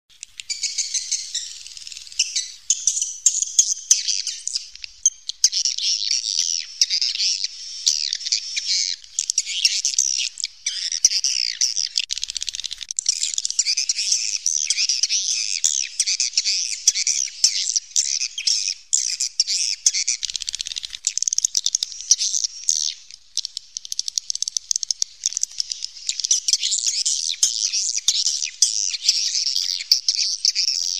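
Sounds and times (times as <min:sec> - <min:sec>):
flock of birds twittering: 0:00.1 - 0:30.9.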